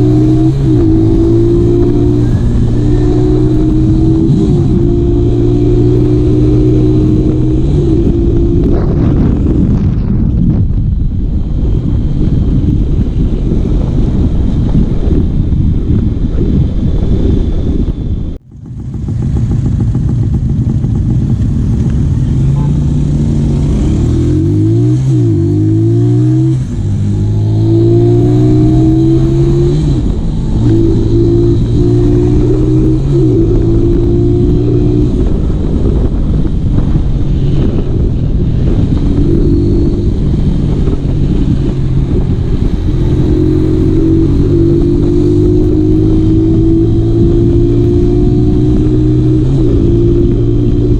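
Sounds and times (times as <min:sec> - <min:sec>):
motorcycle engine accelerating: 0:00.0 - 0:50.9
wind noise on microphone: 0:00.0 - 0:50.9.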